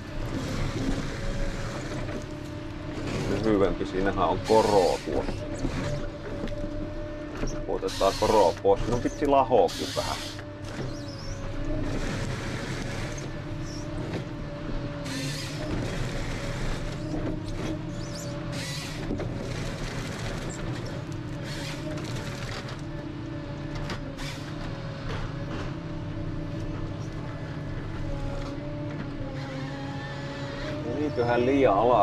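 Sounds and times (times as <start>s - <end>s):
harvester engine and hydraulics whine: 0.0s - 32.0s.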